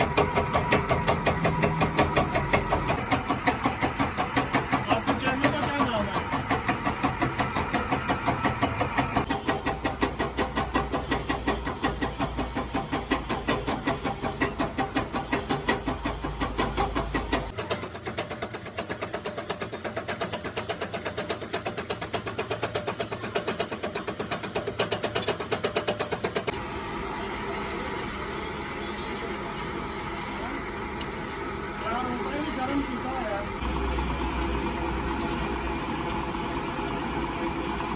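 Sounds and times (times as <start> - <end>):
workshop machinery working rhythmically: 0.0 - 37.9.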